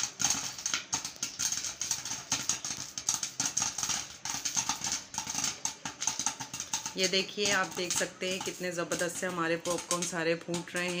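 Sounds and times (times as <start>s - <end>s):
popcorn popping in oil: 0.0s - 11.0s.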